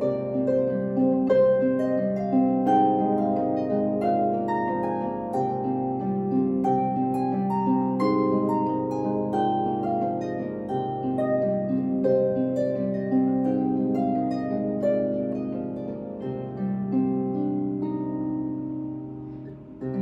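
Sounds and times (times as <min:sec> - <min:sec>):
solo harp playing: 0:00.0 - 0:20.0.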